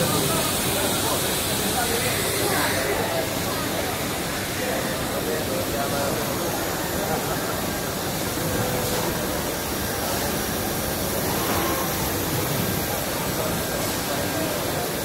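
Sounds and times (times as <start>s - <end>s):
router machine hum and hiss: 0.0s - 15.0s.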